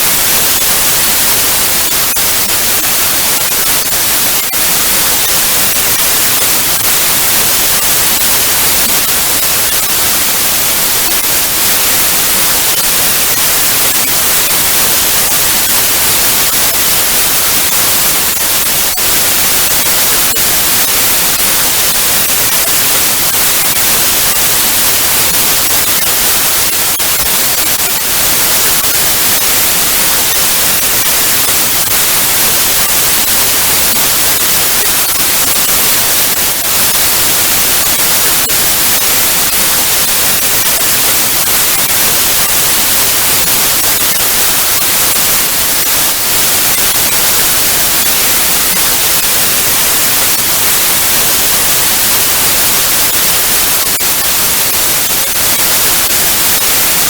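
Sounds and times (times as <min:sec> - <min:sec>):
tv static hiss: 0:00.0 - 0:57.0.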